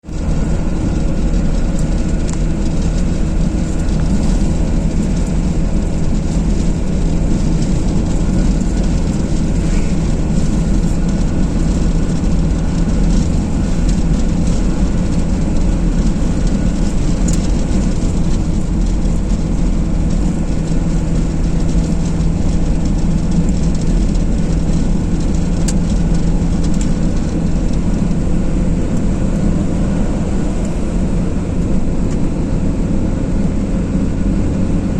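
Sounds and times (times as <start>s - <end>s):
car road and engine noise: 0.0s - 34.9s.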